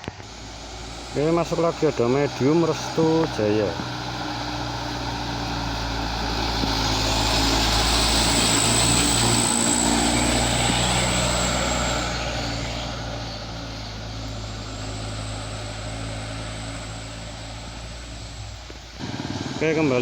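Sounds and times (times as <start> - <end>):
diesel bus passing: 0.0 - 20.0.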